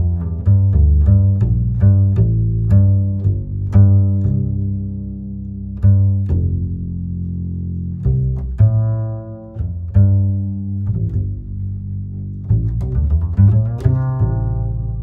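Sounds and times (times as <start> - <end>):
slow low held music notes: 0.0 - 15.0.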